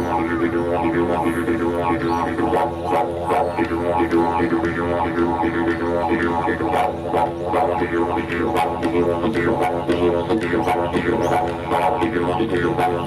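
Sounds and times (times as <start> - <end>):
didgeridoo drone: 0.0 - 13.0.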